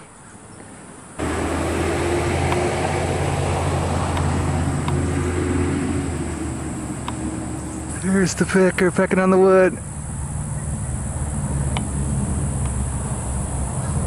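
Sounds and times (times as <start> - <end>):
steady motor drone: 1.2 - 14.0.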